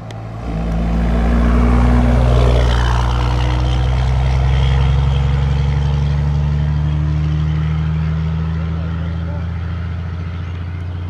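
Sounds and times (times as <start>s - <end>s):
diesel truck driving past: 0.0s - 11.0s.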